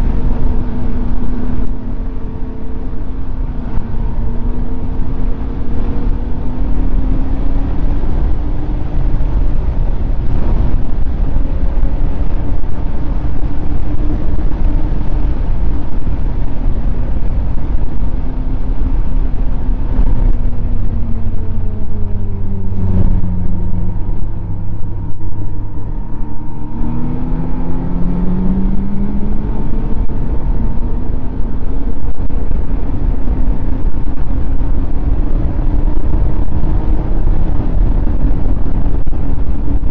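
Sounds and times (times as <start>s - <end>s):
low rushing noise: 0.0s - 39.9s.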